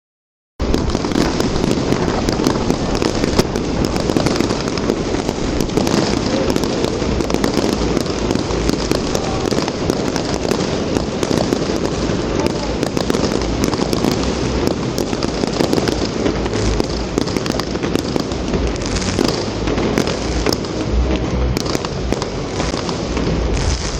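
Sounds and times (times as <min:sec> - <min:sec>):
fireworks crackling: 0:00.6 - 0:23.9.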